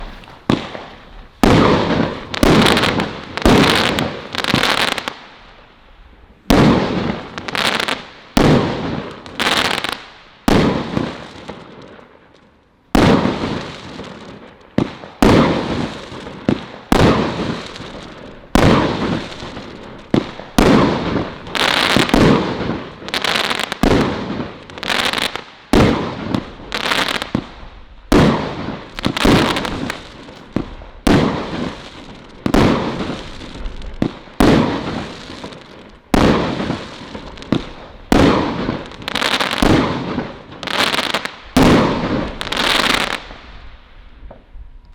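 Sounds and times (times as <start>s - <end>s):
firework bangs: 0.0s - 5.7s, 6.4s - 12.1s, 12.9s - 44.5s
firework crackling: 0.0s - 44.9s.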